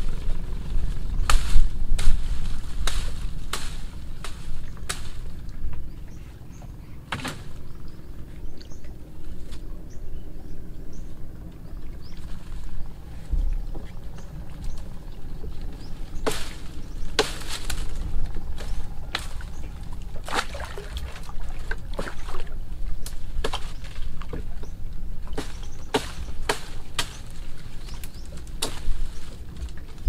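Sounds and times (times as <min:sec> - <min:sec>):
blade chopping branches: 0:00.0 - 0:06.0, 0:07.1 - 0:07.8, 0:12.0 - 0:30.0
steady low rumble: 0:00.0 - 0:30.0.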